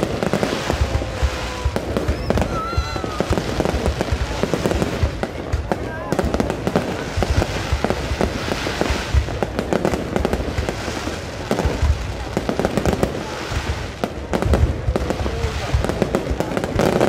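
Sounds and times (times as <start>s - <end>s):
fireworks bangs and crackling: 0.0s - 17.0s
heavy firework booms: 0.0s - 17.0s.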